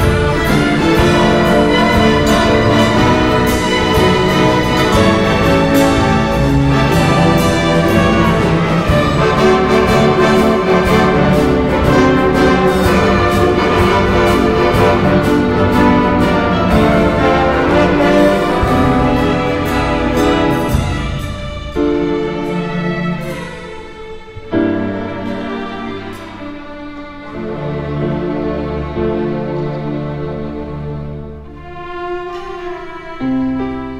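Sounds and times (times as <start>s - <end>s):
full orchestra playing: 0.0s - 33.9s.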